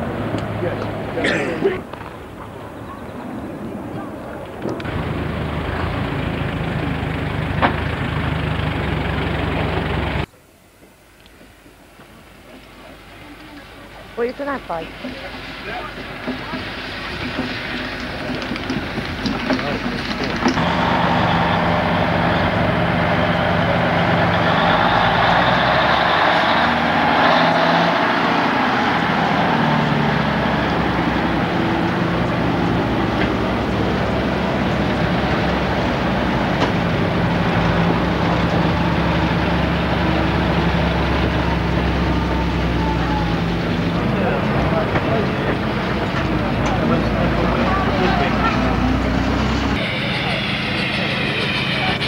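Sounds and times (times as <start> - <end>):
lorry engines droning: 0.0 - 10.3, 12.1 - 52.0.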